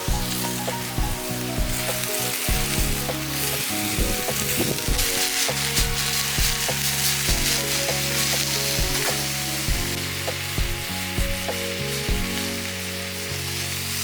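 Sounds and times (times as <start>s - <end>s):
background music low notes: 0.0s - 14.0s
food sizzling in frying pan: 0.0s - 14.0s.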